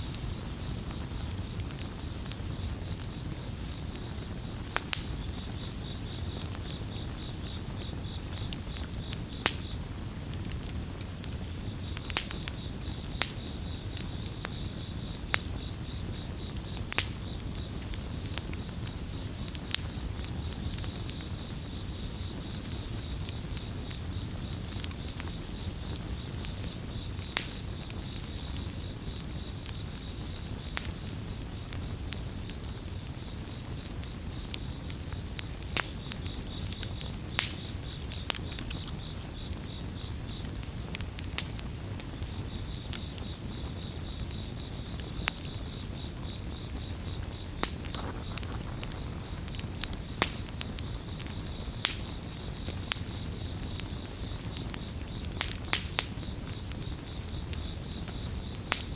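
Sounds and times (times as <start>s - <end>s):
campfire crackling and popping: 0.0s - 58.9s
crickets chirping: 0.2s - 58.9s.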